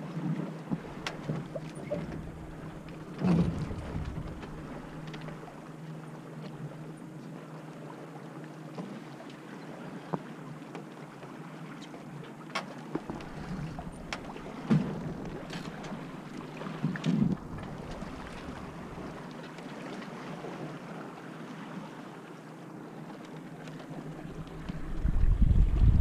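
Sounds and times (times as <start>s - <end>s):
water splashing against hulls: 0.0s - 26.0s.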